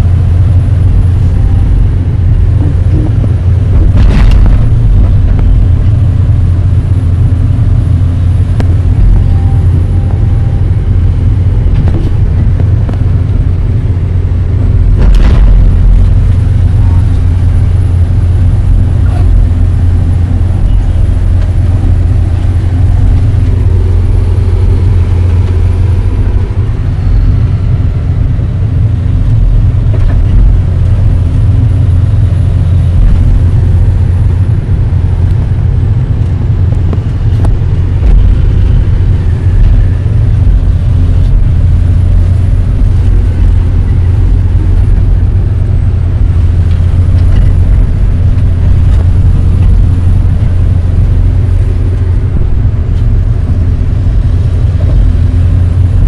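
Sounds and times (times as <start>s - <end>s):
excavator diesel engine drone: 0.0s - 56.0s.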